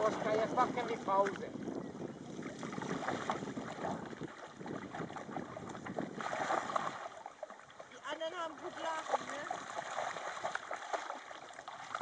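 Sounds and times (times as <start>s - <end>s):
dogs splashing through water: 0.0s - 12.0s.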